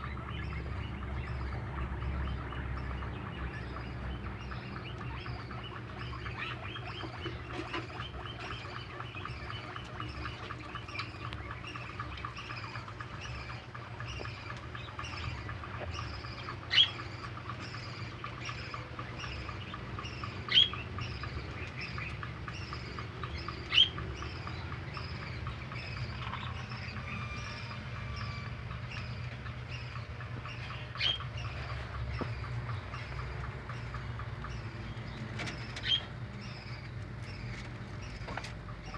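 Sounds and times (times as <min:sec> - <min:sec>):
bird chirping: 0:00.0 - 0:38.9
rabbits chewing vegetables: 0:00.0 - 0:38.9.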